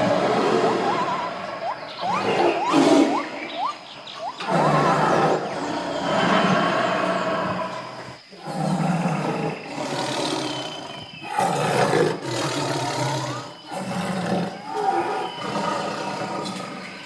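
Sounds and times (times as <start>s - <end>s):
tiger roaring and growling: 0.0s - 3.2s, 4.4s - 17.0s.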